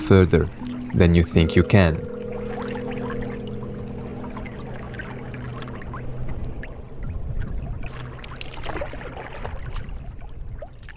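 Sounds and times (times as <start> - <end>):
water dripping: 0.0 - 9.1.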